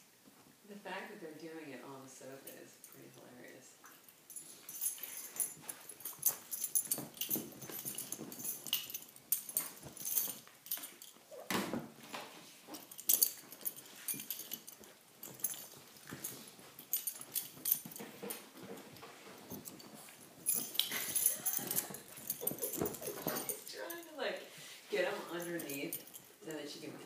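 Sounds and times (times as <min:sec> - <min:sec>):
dogs scuffling: 0:03.9 - 0:27.0.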